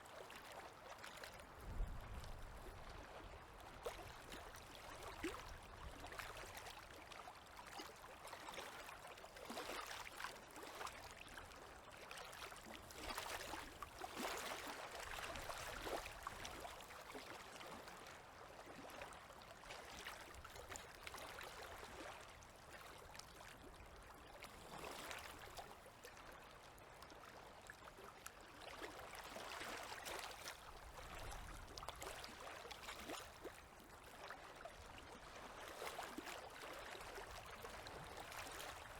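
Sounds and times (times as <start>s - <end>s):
small waves lapping: 0.0s - 38.9s.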